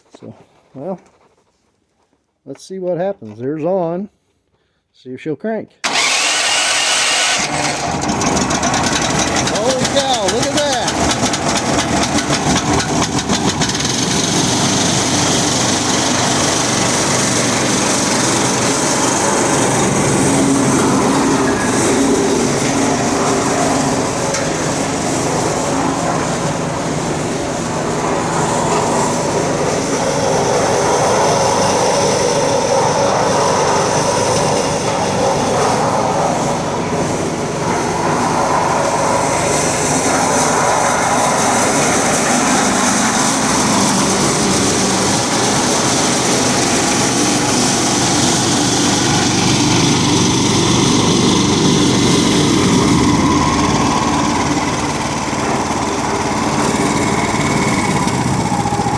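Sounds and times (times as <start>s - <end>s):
concrete mixer engine running: 5.8s - 58.9s.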